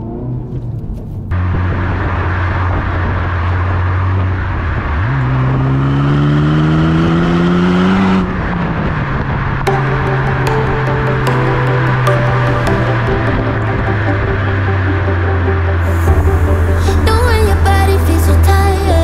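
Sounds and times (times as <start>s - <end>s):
car exhaust revving: 0.0s - 19.0s.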